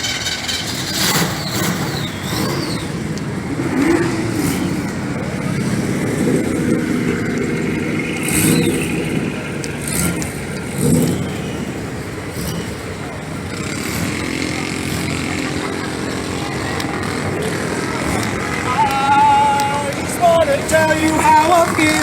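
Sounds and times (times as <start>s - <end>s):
car engine revving: 0.0s - 22.0s
outdoor background noise: 0.0s - 22.0s.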